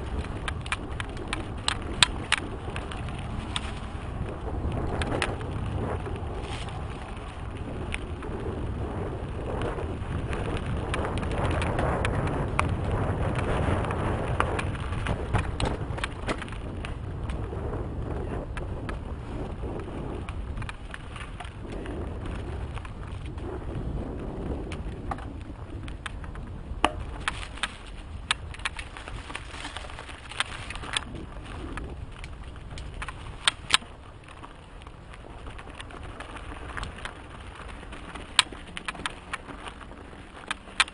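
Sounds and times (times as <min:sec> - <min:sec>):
bike clicks and rattles: 0:00.0 - 0:40.9
tyres on dirt: 0:00.0 - 0:40.9
wind rumbling on microphone: 0:00.0 - 0:40.9.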